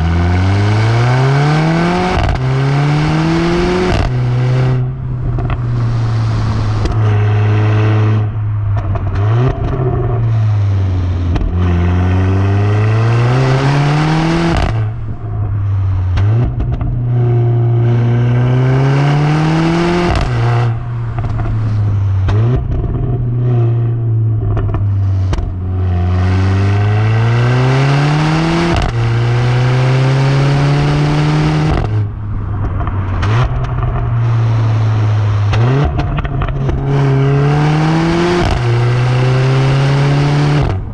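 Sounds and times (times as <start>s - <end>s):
car engine accelerating through gears: 0.0s - 40.9s.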